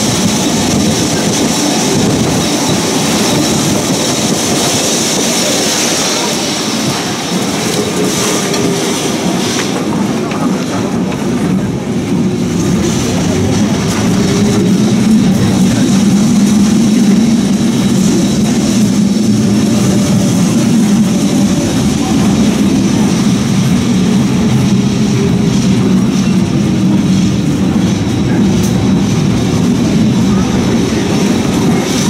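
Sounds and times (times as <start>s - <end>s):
tram rumbling on rails: 0.0s - 32.0s.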